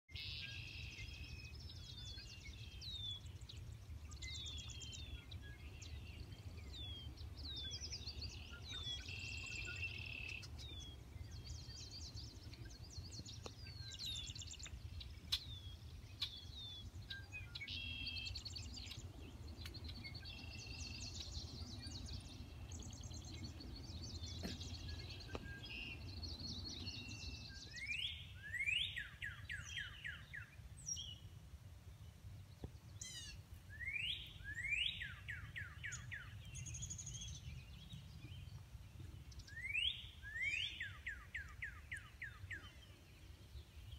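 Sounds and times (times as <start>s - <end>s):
bird song of rising slurred notes: 0.1s - 31.4s, 32.4s - 43.9s
songbirds chirping and singing: 0.1s - 43.9s.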